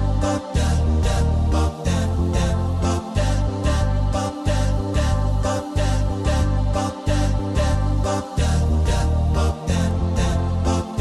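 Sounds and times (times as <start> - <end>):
hummed bass tones: 0.0 - 11.0.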